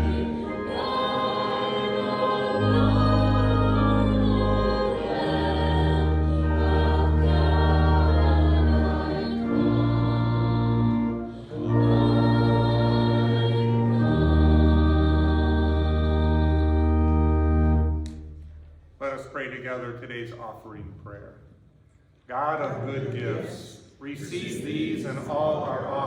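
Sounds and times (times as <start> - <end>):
church choir singing: 0.0 - 18.0, 22.5 - 26.0.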